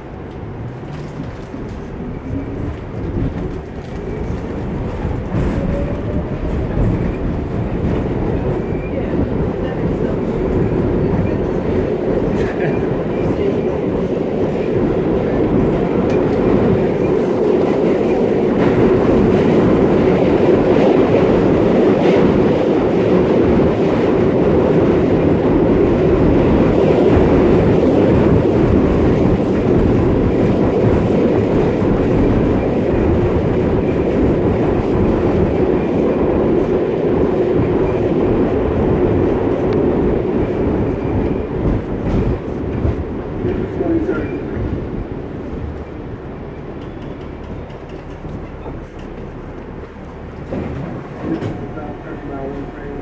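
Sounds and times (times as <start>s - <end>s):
subway train wheels on track: 0.0s - 53.0s.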